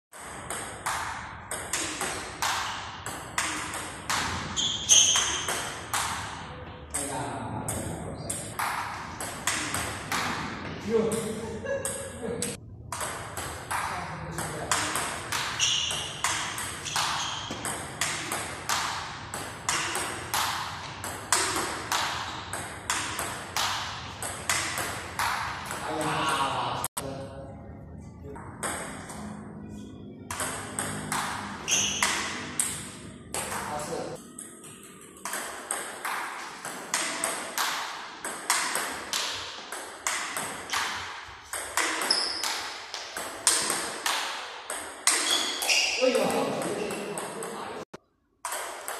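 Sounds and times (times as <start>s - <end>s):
table tennis ball hits: 0.2s - 12.1s, 12.8s - 26.2s, 28.3s - 29.4s, 30.2s - 47.6s, 48.4s - 48.9s.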